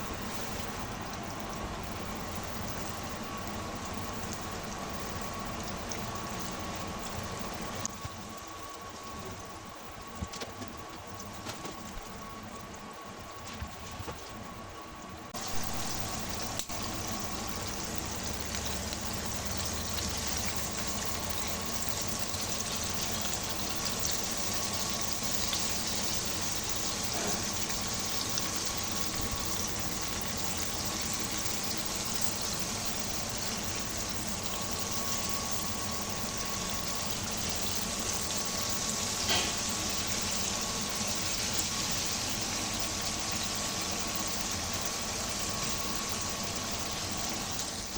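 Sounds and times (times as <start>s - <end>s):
chicken deep-frying in oil: 0.0s - 47.9s.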